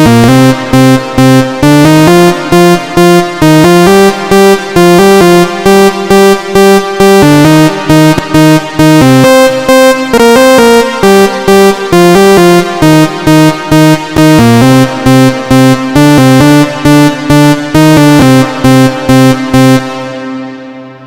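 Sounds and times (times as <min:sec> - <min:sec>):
stepping bass line: 0:00.0 - 0:20.2
synthesizer chord stabs: 0:00.0 - 0:21.0.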